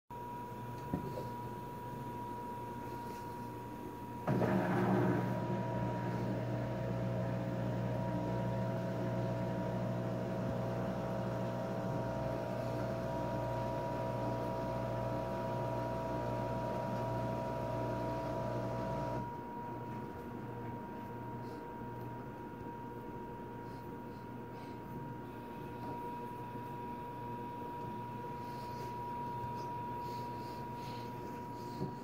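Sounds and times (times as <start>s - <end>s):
washing machine whine: 0.1s - 32.0s.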